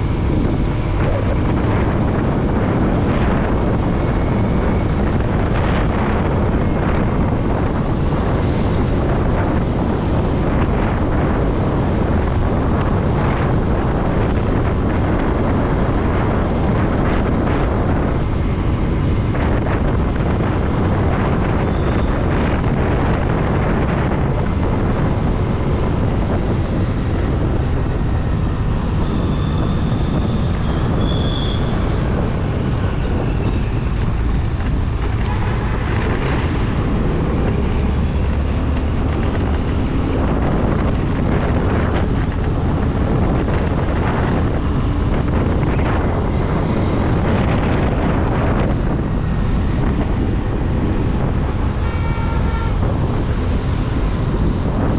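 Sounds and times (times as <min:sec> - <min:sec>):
motorcycle riding at speed: 0:00.0 - 0:54.9
wind rush on microphone: 0:00.0 - 0:54.9.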